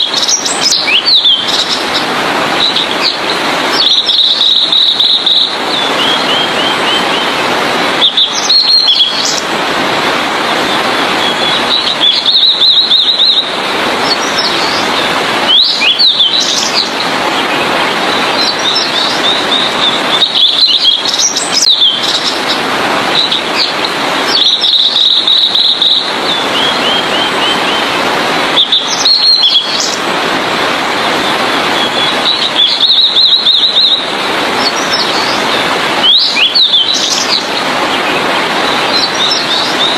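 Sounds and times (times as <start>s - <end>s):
bird singing high phrases: 0.0s - 7.4s, 8.0s - 9.5s, 10.6s - 22.6s, 23.2s - 27.9s, 28.6s - 30.0s, 31.2s - 39.9s
loud steady hiss: 0.0s - 39.9s.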